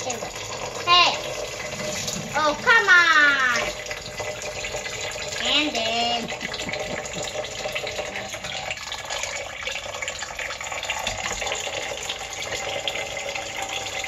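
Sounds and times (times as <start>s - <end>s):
water pouring into a pot: 0.0s - 14.0s.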